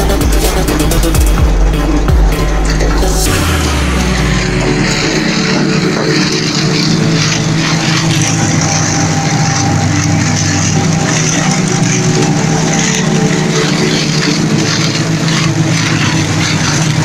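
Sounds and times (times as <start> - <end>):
tractor and corn picker drone: 0.0 - 17.0.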